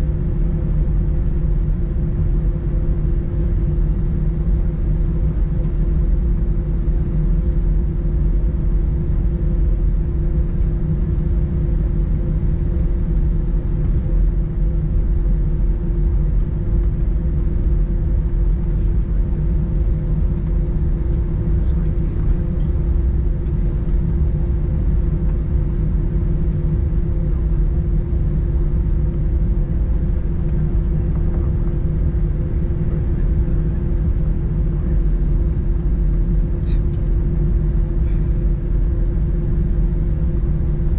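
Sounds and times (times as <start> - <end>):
aircraft engine rumble: 0.0 - 40.9
constant low hum: 0.0 - 40.9.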